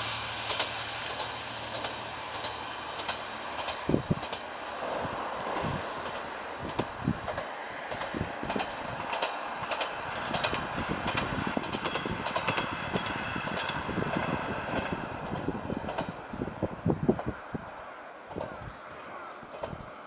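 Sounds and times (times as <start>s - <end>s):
diesel railcar rumbling: 0.0s - 20.0s
wheels clicking on rails: 0.0s - 20.0s.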